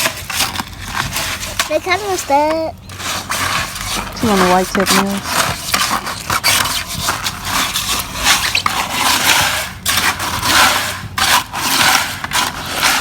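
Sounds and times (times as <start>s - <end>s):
tool scraping concrete mix: 0.0s - 13.0s.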